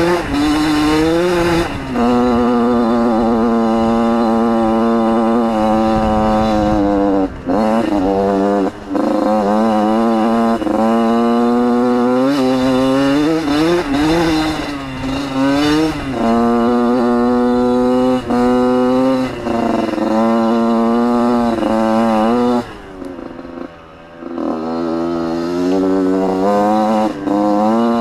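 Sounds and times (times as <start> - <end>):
two-stroke engine revving: 0.0 - 28.0.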